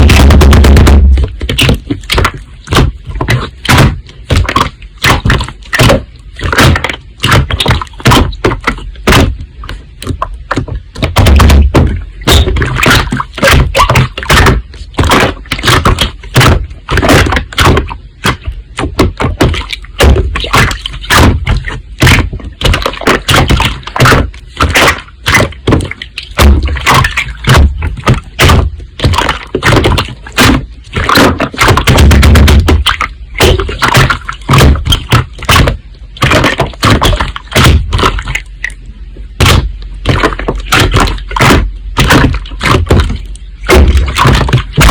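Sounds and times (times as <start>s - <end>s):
low squelching thumps: 0.0s - 44.9s.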